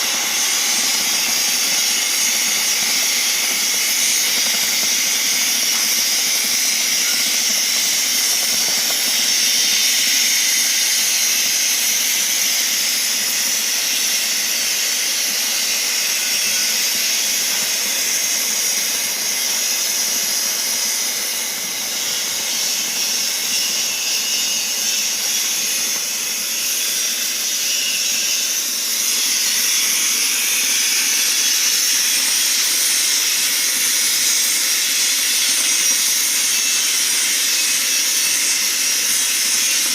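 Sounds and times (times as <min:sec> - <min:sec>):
cutting torch gas jet hissing: 0:00.0 - 0:39.9.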